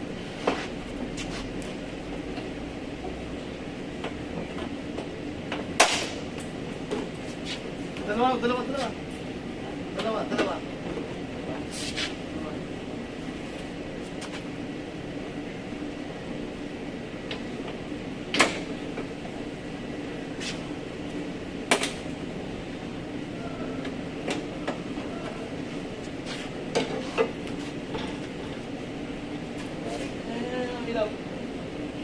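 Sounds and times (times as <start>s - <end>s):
workshop hum: 0.0s - 32.0s.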